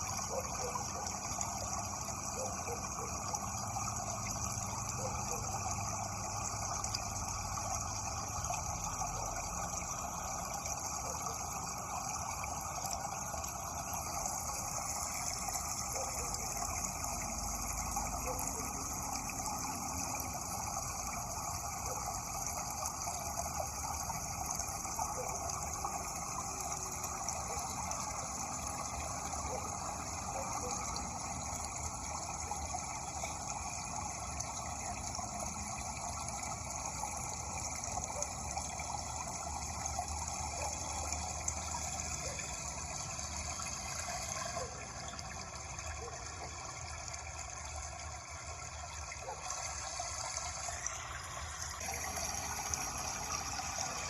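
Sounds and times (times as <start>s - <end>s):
faint water splashes: 0.0s - 54.0s
running water rushing: 0.0s - 54.0s.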